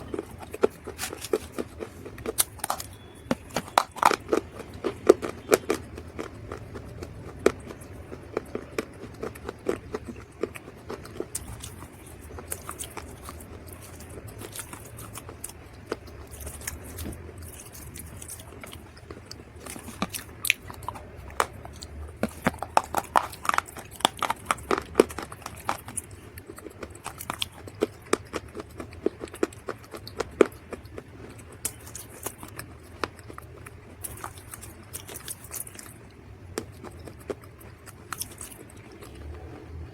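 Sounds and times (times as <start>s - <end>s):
dried mud being chewed: 0.0s - 39.9s.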